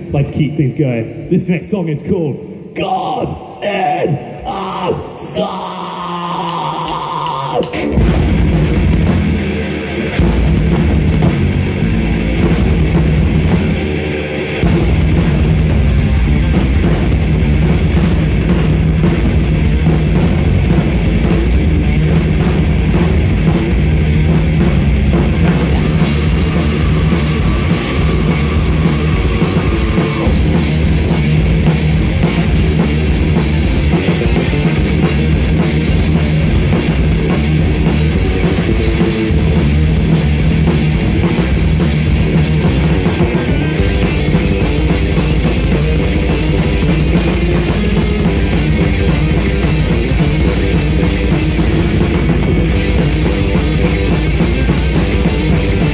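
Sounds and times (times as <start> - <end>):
drum kit with cymbals hammering: 0.0 - 55.9
heavy metal band playing: 0.0 - 55.9.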